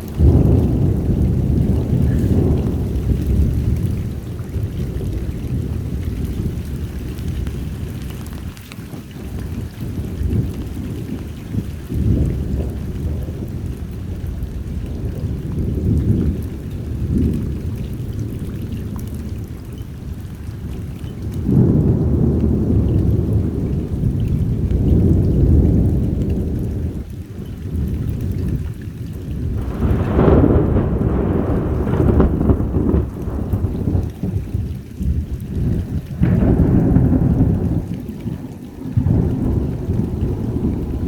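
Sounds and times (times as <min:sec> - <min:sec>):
rain falling: 0:00.0 - 0:41.0
thunder rumbling: 0:00.0 - 0:41.0.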